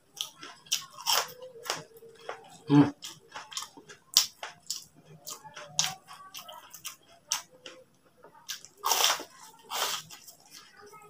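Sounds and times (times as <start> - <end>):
chewing crispy food: 0.0 - 11.0.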